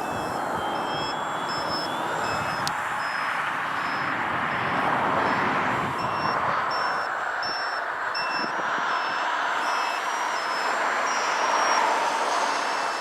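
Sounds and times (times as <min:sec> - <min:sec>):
steady rushing noise: 0:00.0 - 0:12.4
short high-pitched beeps: 0:00.0 - 0:13.0.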